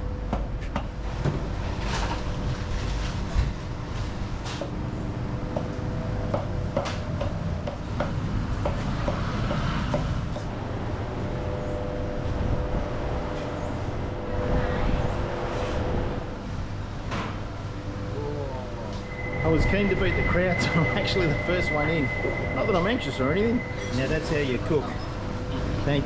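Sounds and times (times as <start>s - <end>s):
street traffic rumble: 0.0s - 26.0s.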